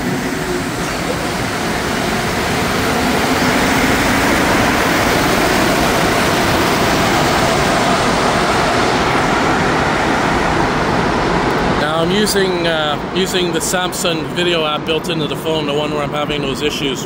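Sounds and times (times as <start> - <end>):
train rushing past platform: 0.0 - 17.0.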